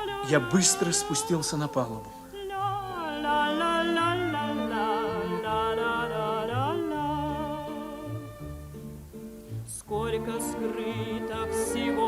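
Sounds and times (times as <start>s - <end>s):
woman singing wordless melody: 0.0s - 8.8s, 9.6s - 12.0s.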